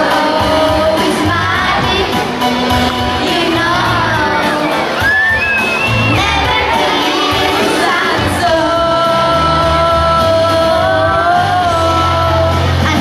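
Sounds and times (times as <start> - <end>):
bass line: 0.0 - 13.0
person singing: 0.0 - 13.0.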